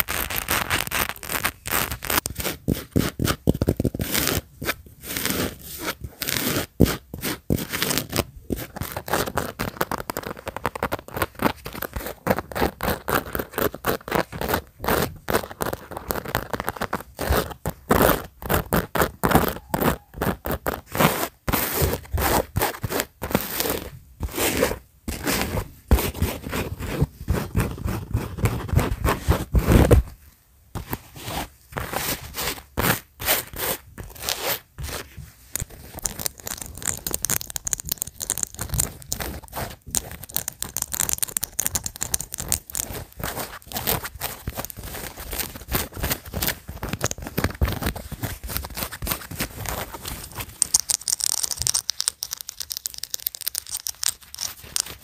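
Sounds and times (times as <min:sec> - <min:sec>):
fingernails scratching fabric cap: 0:00.1 - 0:30.0, 0:30.8 - 0:55.0.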